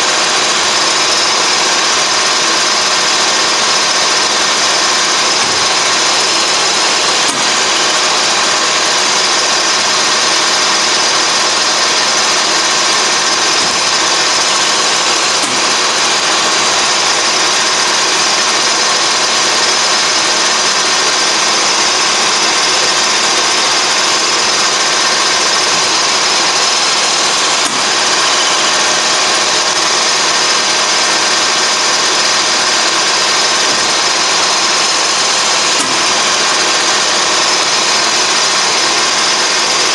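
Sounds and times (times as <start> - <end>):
lathe running with gear whine: 0.0 - 39.9.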